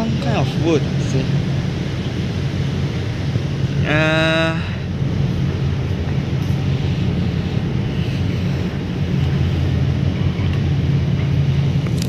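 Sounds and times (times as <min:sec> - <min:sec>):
ferry engines humming: 0:00.0 - 0:12.0
rushing noise: 0:00.0 - 0:12.0.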